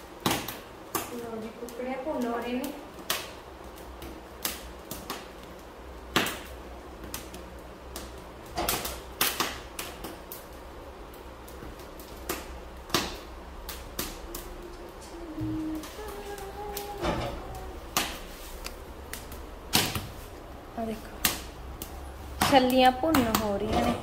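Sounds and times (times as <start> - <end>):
corn kernels crackling and popping: 0.0 - 24.0
low steady background hum: 0.0 - 24.0.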